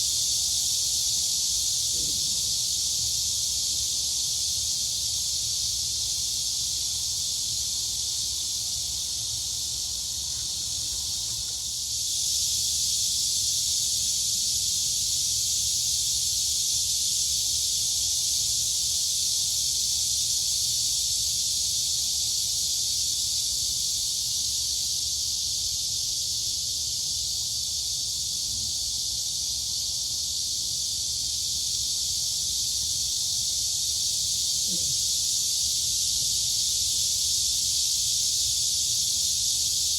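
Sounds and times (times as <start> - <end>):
crickets and cicadas chorus: 0.0 - 39.9.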